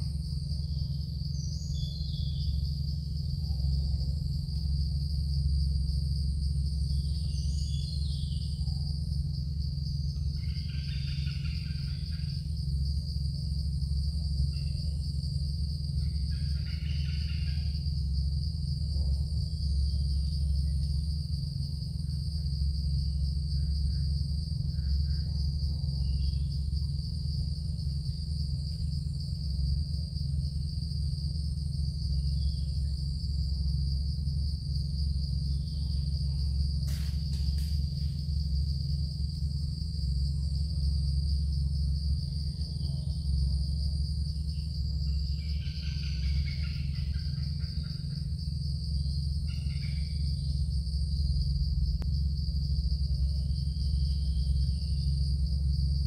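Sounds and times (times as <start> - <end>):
insects droning: 0.0 - 56.0
steady low hum: 0.0 - 56.0.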